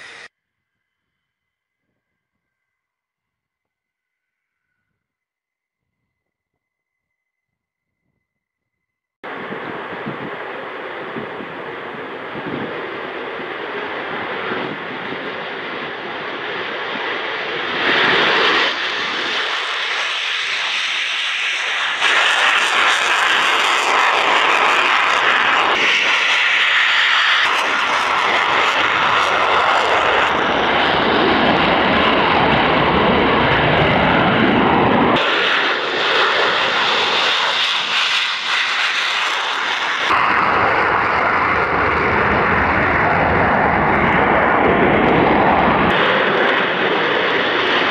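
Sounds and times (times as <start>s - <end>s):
jet engine noise: 0.0s - 0.3s, 9.2s - 47.9s.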